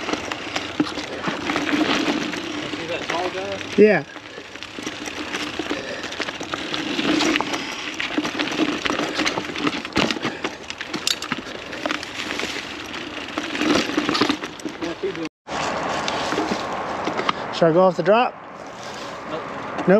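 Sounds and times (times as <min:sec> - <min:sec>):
bike clicks and rattles: 0:00.0 - 0:17.4.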